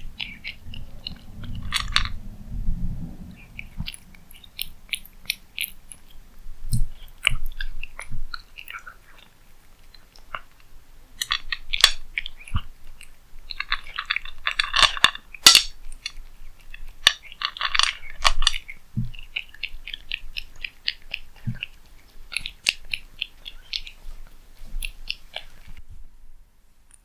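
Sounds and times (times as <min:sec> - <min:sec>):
cat chewing crunchy food: 0:00.0 - 0:02.2, 0:02.8 - 0:25.8.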